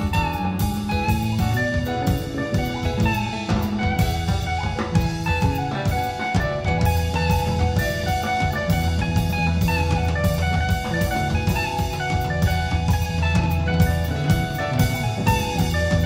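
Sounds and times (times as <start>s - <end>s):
drum kit with cymbals: 0.0s - 16.0s
electric guitar: 0.0s - 16.0s
heavy bass: 0.0s - 16.0s
keyboard: 0.0s - 16.0s.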